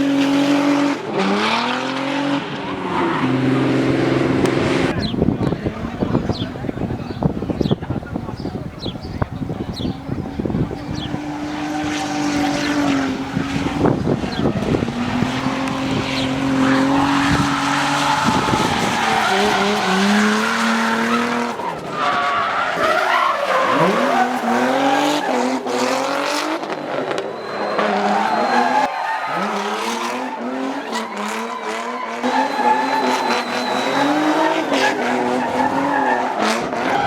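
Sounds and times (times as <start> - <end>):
car engine revving: 0.0 - 37.0
tyres squealing: 4.8 - 26.2, 27.3 - 37.0.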